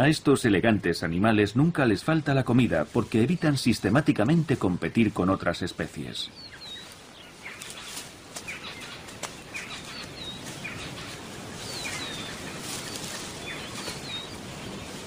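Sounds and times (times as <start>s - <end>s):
rustling hiss: 0.0s - 15.0s
small birds chirping: 0.4s - 15.0s.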